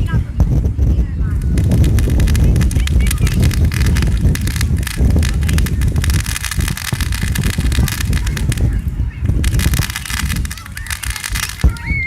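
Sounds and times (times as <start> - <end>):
fireworks booms and rumble: 0.0 - 12.0
fireworks crackling: 0.0 - 12.0
sharp firework bang: 0.0 - 12.0.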